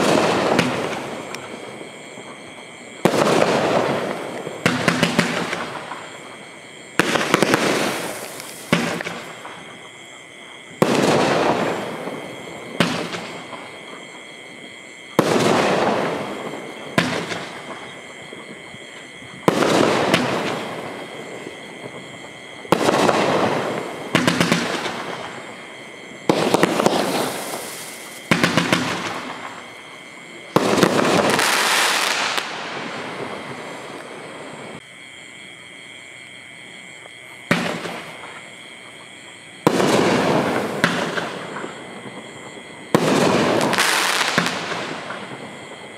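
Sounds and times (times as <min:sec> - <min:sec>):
fireworks firing sharp reports: 0:00.0 - 0:06.4, 0:07.0 - 0:09.9, 0:10.7 - 0:13.8, 0:15.1 - 0:34.8, 0:37.5 - 0:38.4, 0:39.6 - 0:45.9.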